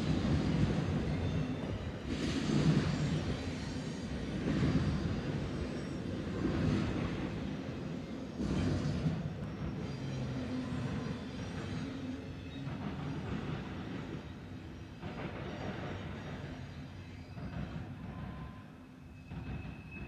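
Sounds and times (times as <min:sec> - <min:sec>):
freight train wheels rumbling on track: 0:00.0 - 0:20.0.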